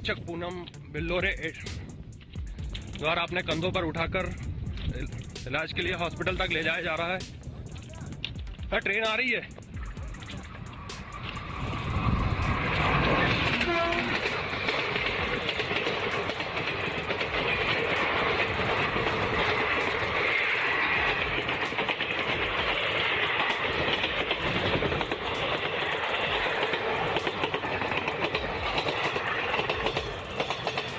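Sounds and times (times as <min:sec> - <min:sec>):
train rumbling: 0:00.0 - 0:30.9
wheels clattering over rails: 0:00.0 - 0:30.9.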